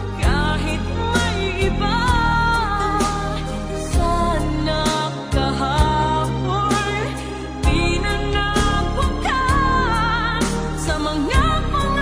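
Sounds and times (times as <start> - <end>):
pop love song: 0.0 - 12.0.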